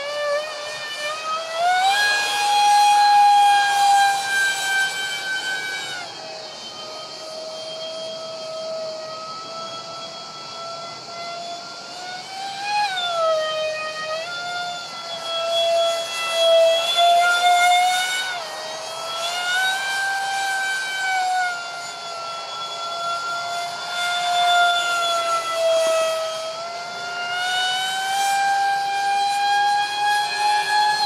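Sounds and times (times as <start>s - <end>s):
electric ducted fans screeching: 0.0s - 31.0s.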